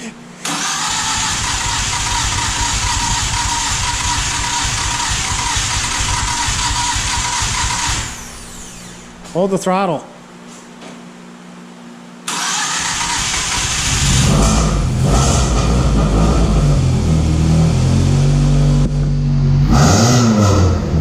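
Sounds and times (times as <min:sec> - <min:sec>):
car engine starting and revving: 0:00.4 - 0:08.6, 0:12.3 - 0:21.0.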